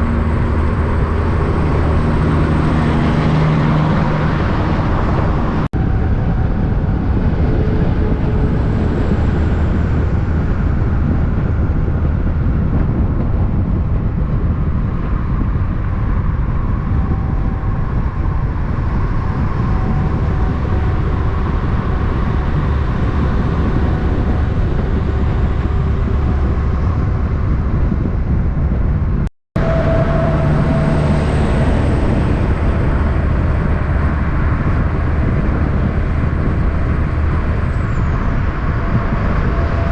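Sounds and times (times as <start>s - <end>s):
heavy diesel trucks running: 0.0s - 39.9s
traffic noise: 0.0s - 39.9s.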